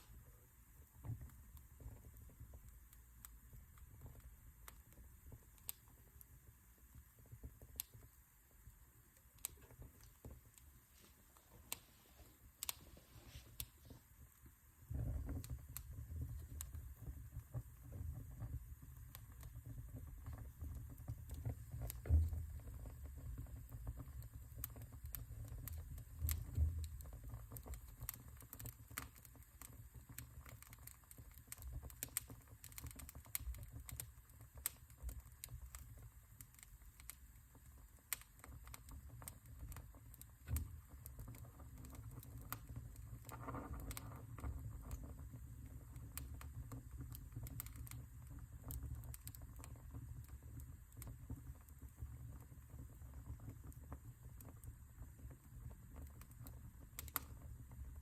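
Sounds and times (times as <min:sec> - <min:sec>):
fire pops and snaps: 0:00.0 - 0:58.0
wood fire crackling: 0:00.0 - 0:58.0.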